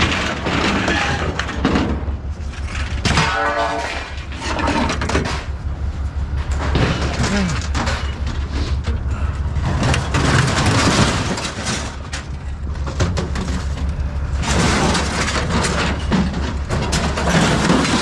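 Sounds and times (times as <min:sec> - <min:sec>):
clattering and knocking: 0:00.0 - 0:18.0
engine running: 0:00.0 - 0:18.0.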